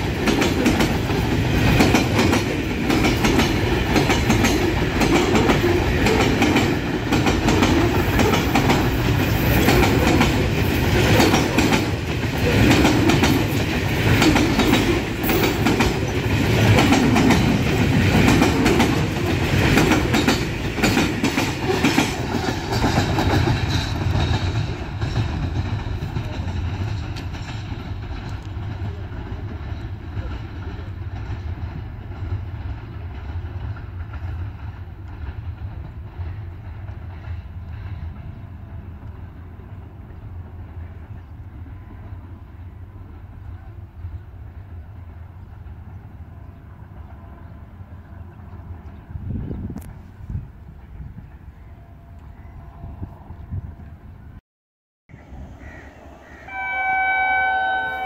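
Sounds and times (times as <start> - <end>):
train rumble: 0.0 - 54.4.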